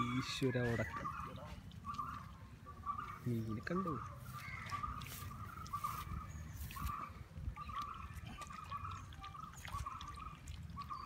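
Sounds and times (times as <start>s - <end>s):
water trickling and gurgling: 0.0s - 11.0s.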